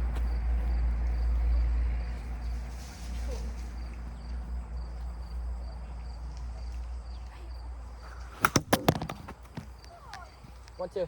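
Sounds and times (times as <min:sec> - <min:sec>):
faint insects chirping: 0:00.0 - 0:11.0.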